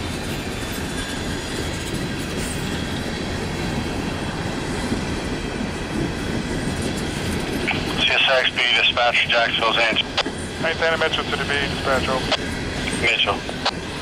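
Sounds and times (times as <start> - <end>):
freight train wheels rolling on rails: 0.0 - 14.0.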